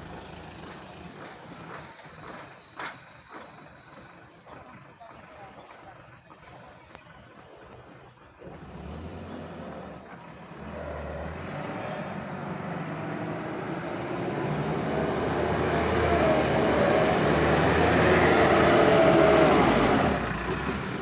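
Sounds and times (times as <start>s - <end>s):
dump truck diesel engine running: 0.0s - 21.0s.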